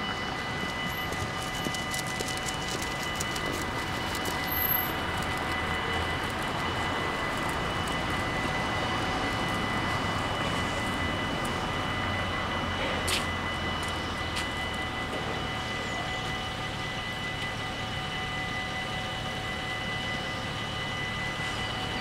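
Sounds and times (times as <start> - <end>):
level crossing warning bells: 0.0 - 22.0.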